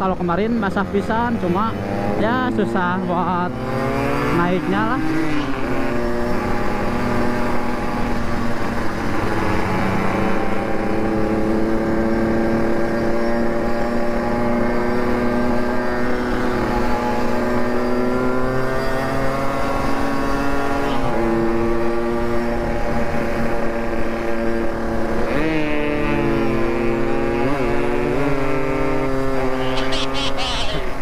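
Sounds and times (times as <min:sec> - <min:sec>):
motorcycle engine: 0:00.0 - 0:31.0.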